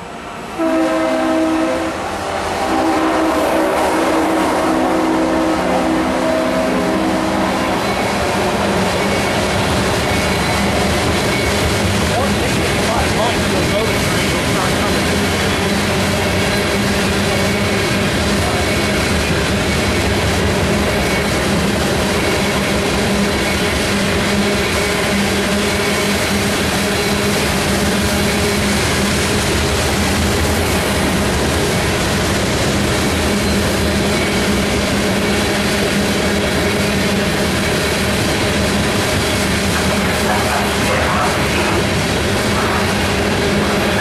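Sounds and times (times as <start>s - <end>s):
freight train wheels on rails: 0.0s - 44.0s.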